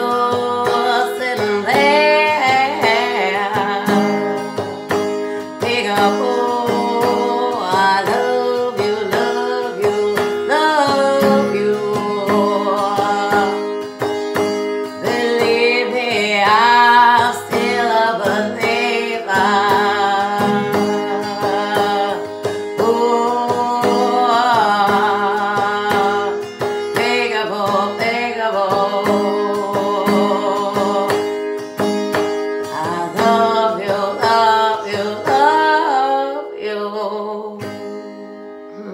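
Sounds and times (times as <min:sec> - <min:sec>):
strummed acoustic guitar: 0:00.0 - 0:38.9
woman singing: 0:00.0 - 0:38.9.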